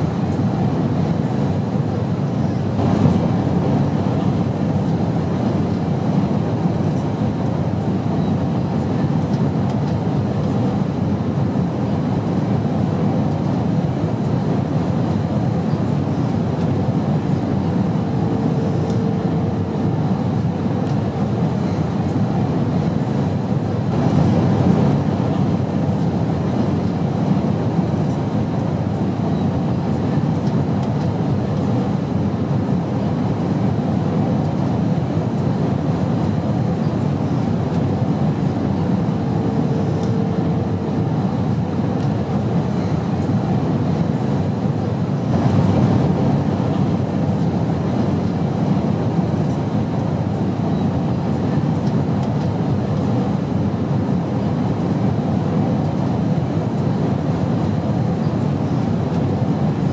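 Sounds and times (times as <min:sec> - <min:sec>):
airplane drone: 0:00.0 - 0:59.9.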